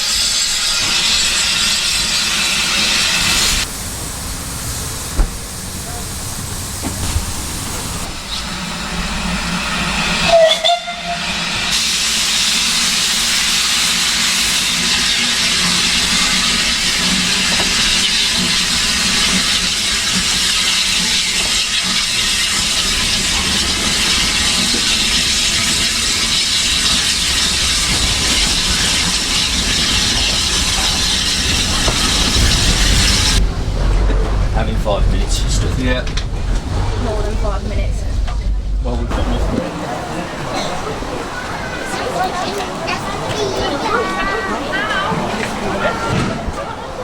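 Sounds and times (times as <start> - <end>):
steam hissing: 0.0 - 46.1.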